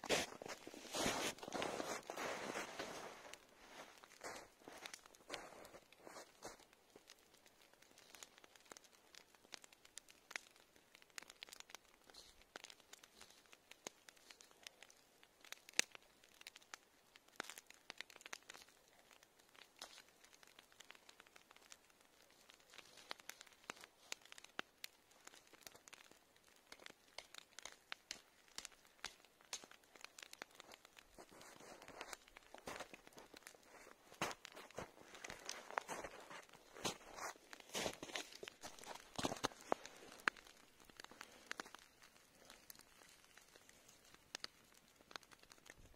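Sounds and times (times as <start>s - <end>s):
twigs rustling: 0.0s - 14.9s, 19.5s - 45.9s.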